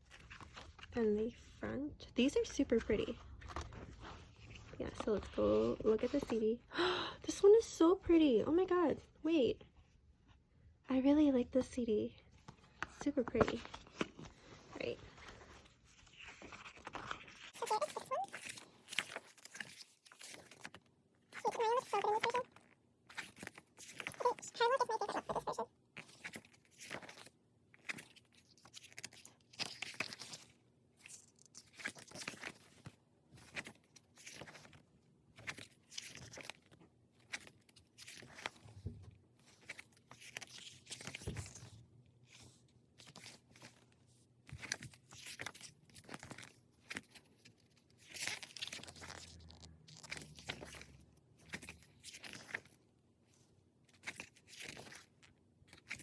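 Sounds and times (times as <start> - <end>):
paper and plastic rustling: 0.0 - 1.6, 2.3 - 6.6, 12.3 - 56.0.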